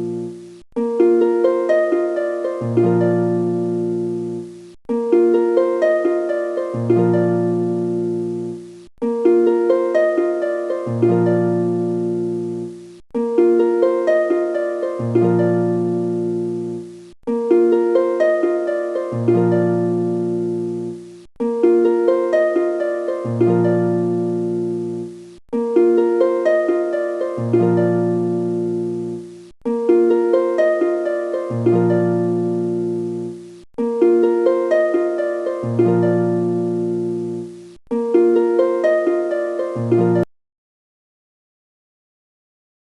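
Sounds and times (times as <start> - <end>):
looped plucked-string music: 0.0 - 40.3.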